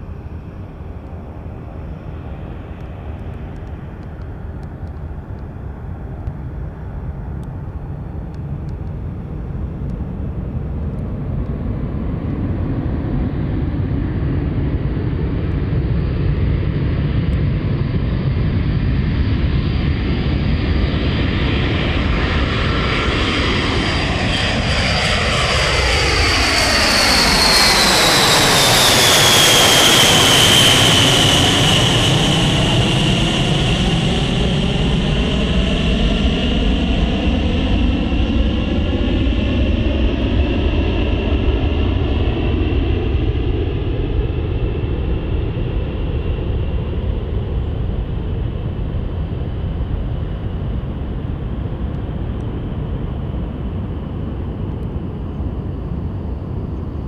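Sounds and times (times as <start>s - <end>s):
aircraft high whine: 0.0s - 57.0s
jet engines rumbling: 0.0s - 57.0s.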